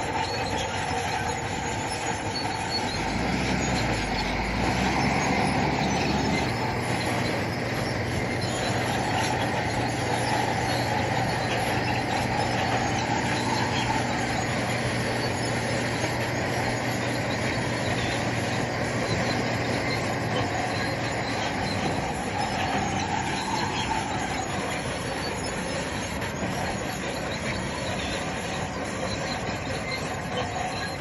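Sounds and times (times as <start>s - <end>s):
bulldozer running: 0.0s - 31.0s
steel tracks squealing: 0.0s - 31.0s.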